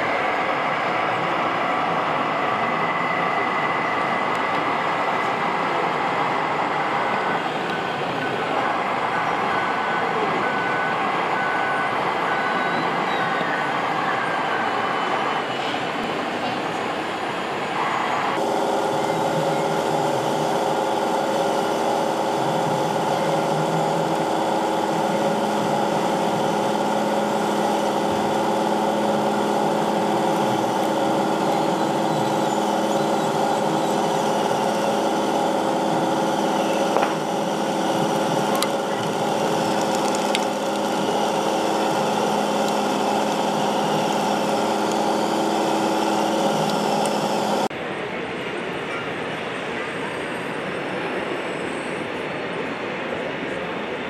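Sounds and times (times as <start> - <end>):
simulated diesel engine running: 0.0 - 48.1.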